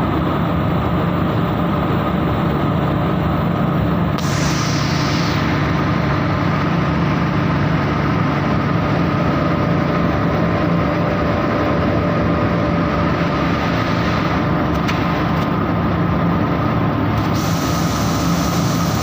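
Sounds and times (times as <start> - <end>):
higher machine whine: 0.0 - 19.0
machine hum: 0.0 - 19.0.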